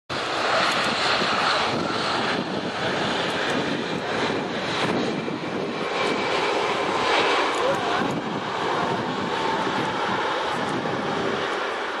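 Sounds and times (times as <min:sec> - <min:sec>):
jet engines roaring: 0:00.1 - 0:12.0.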